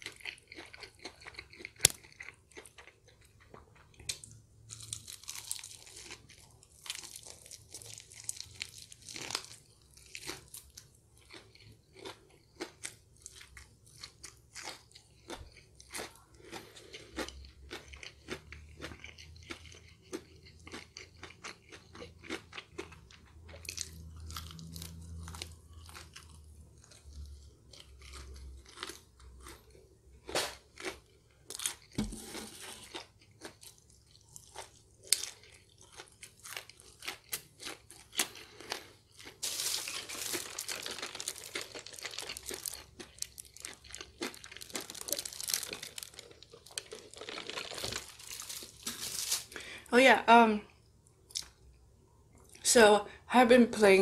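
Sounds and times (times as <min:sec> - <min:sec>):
chewing crispy chicken: 0:00.0 - 0:49.9.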